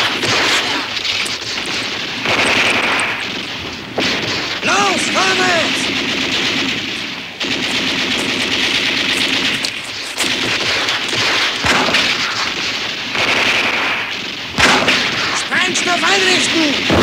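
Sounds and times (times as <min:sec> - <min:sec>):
heavy blast: 0:00.0 - 0:17.0
machine gun and rifle fire: 0:00.0 - 0:17.0.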